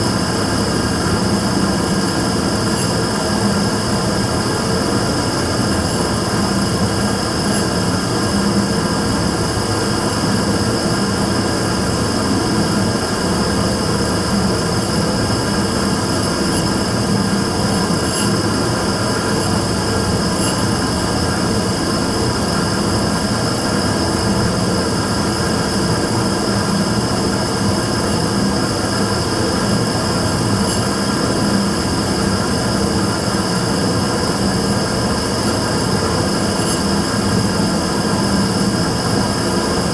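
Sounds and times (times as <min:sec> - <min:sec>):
burner running: 0:00.0 - 0:39.9.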